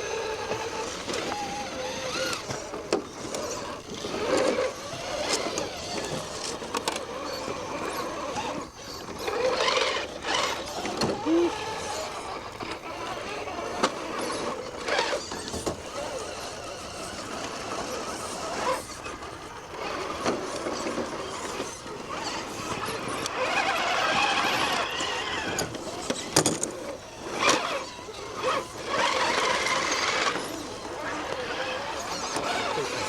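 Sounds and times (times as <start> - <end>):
electric motor and gear whine: 0.0 - 33.0
wheels scrabbling over terrain: 0.0 - 33.0.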